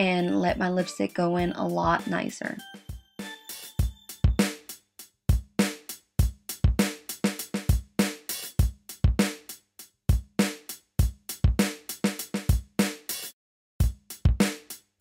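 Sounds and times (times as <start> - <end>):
electronic drum beat: 0.4 - 14.8.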